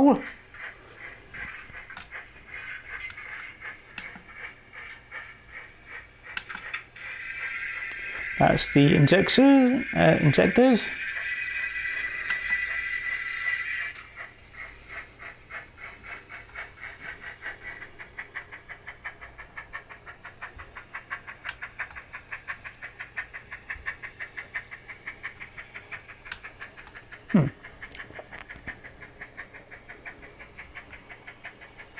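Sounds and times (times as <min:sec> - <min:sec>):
locomotive exhaust chuffs: 0:00.0 - 0:31.9
steam injector hiss: 0:00.2 - 0:28.5.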